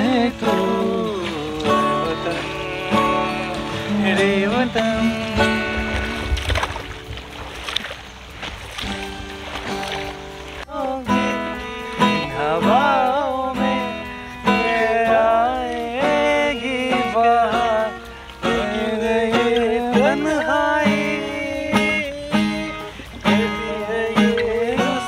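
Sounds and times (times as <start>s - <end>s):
person singing: 0.0s - 6.8s, 10.6s - 25.0s
acoustic guitar strumming: 0.0s - 25.0s.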